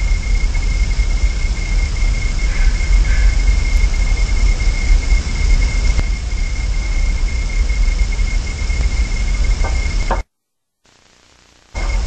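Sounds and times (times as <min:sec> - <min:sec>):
high-pitched electrical whine: 0:00.0 - 0:10.3, 0:10.9 - 0:12.0.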